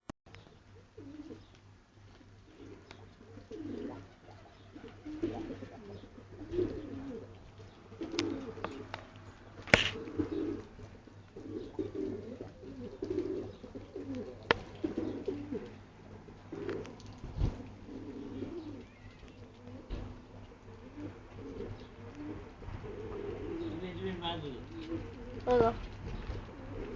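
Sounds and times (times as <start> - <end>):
pigeons cooing: 0.4 - 26.9.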